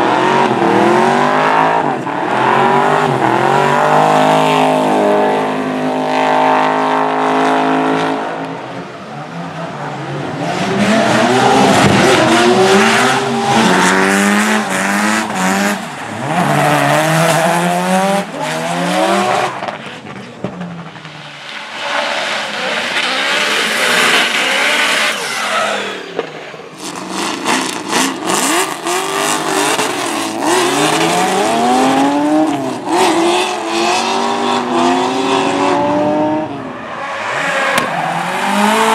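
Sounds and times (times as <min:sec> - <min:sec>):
car engines revving hard: 0:00.0 - 0:38.9.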